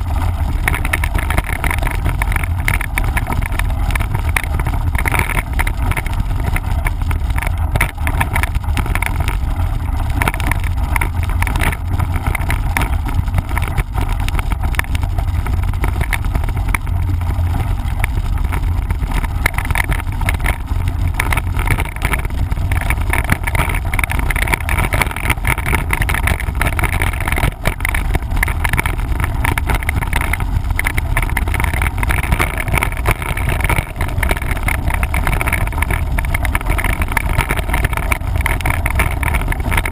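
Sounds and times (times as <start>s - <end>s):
bike knocks and rattles: 0.0s - 39.9s
wind on microphone: 0.0s - 39.9s.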